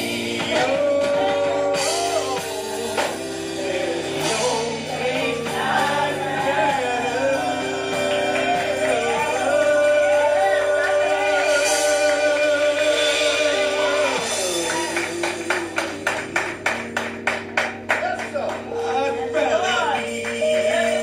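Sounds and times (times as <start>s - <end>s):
person singing gospel: 0.0s - 17.2s, 18.6s - 21.0s
sustained instrumental chords: 0.0s - 21.0s.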